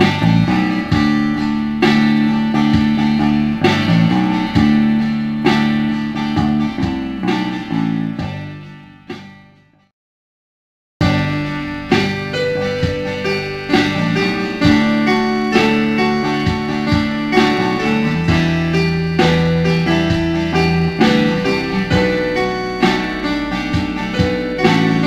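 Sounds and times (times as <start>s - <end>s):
electric keyboard piano arpeggios: 0.0s - 9.1s, 11.0s - 25.0s
acoustic guitar: 0.0s - 9.8s, 11.0s - 25.0s
bass: 0.0s - 9.9s, 11.0s - 25.0s.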